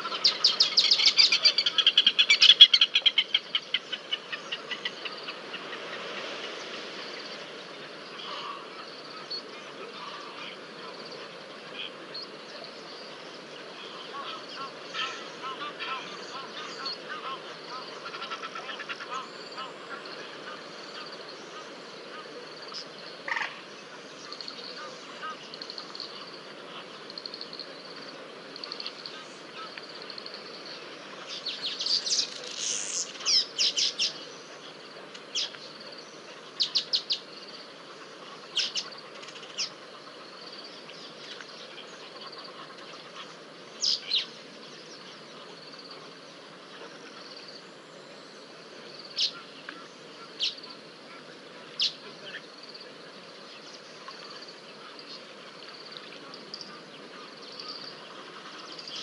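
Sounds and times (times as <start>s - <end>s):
birds chirping: 0.0s - 59.0s
outdoor hiss: 0.0s - 59.0s.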